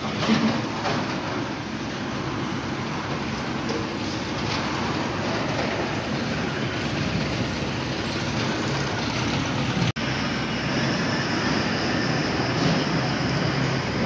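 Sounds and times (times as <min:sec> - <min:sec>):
diesel truck engines running: 0:00.0 - 0:14.0
truck driving past: 0:00.0 - 0:14.0.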